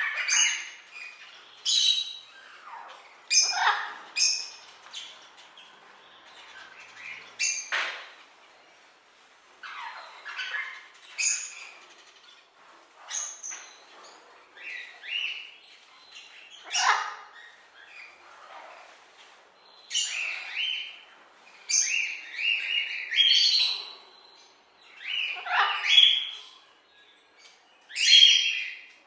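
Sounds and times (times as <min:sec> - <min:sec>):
parrots calling: 0:00.0 - 0:08.2, 0:09.6 - 0:19.0, 0:19.9 - 0:24.1, 0:24.8 - 0:26.6.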